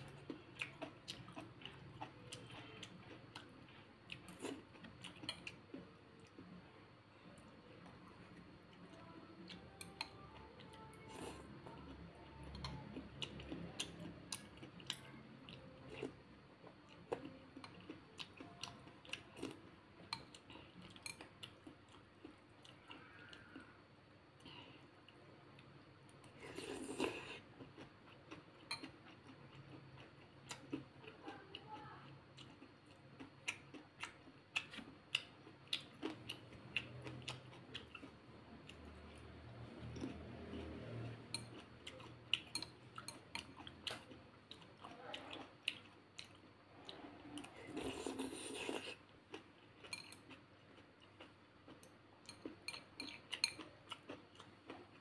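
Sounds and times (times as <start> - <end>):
chewing: 0.0 - 23.8, 24.4 - 55.0.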